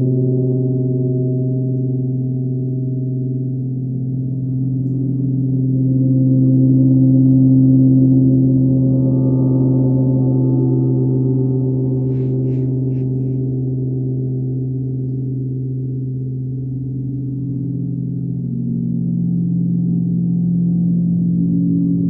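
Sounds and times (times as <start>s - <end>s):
gong low drone: 0.0s - 22.0s.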